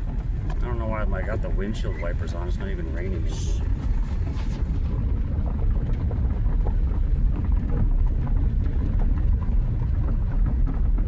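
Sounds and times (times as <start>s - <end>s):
vehicle rumble inside cabin: 0.0s - 11.0s.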